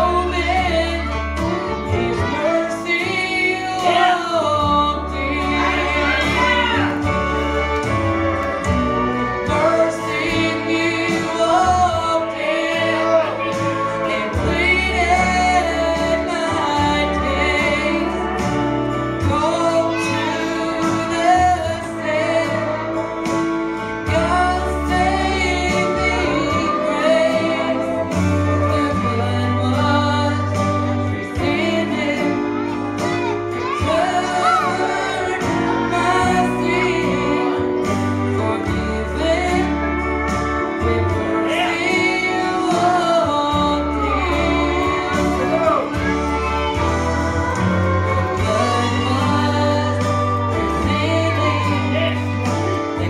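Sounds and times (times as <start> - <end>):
instrumental accompaniment: 0.0 - 53.0
woman singing gospel song: 0.0 - 53.0.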